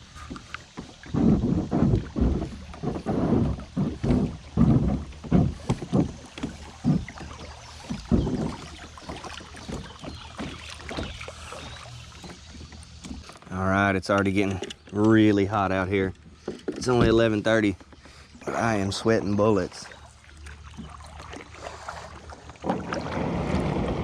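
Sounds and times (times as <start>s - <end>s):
kayak paddle strokes in water: 0.0s - 24.0s
water noise: 0.0s - 24.0s.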